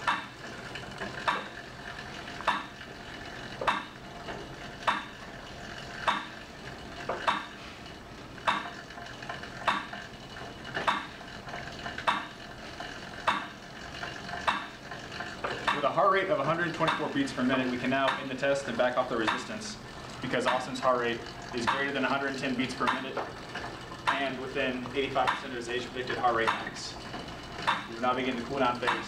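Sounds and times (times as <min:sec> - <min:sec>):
flywheel whirring: 0:00.0 - 0:29.0.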